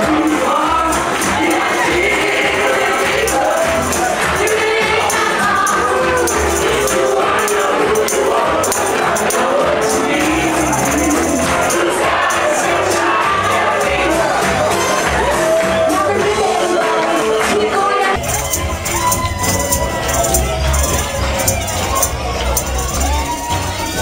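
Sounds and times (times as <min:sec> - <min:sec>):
tambourine jingling: 0:00.0 - 0:15.1, 0:18.2 - 0:24.0
upbeat song with group vocals: 0:00.0 - 0:24.0.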